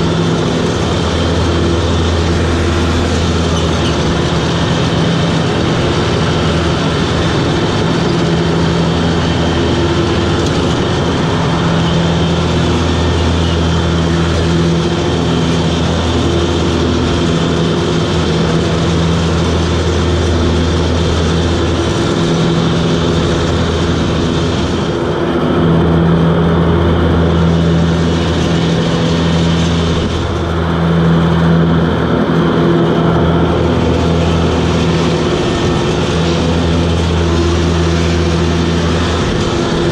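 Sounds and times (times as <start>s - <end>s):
mower diesel engine running: 0.0s - 39.9s.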